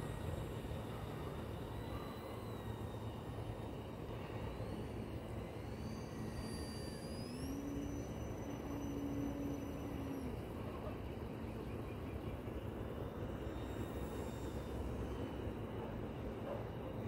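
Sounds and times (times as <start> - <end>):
model airplane motor whining: 0.0 - 16.9.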